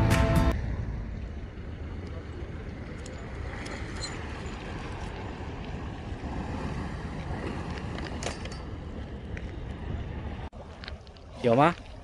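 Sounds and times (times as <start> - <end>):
wind rumble: 0.0 - 11.4
sea wash against breakwater: 0.6 - 12.0.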